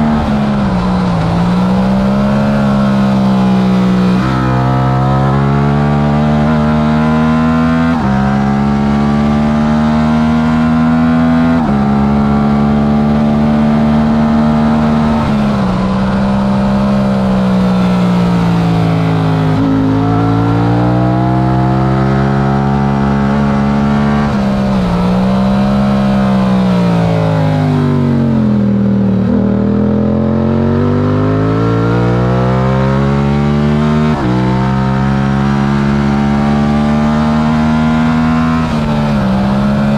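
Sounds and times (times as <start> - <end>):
motorcycle engine at race pace: 0.0 - 39.9.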